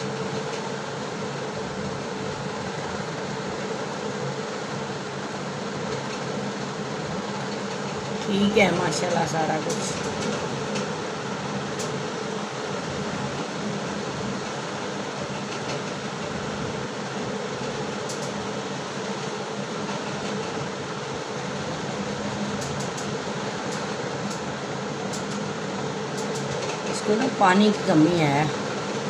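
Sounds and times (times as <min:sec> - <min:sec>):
cooling fan humming: 0:00.0 - 0:29.0.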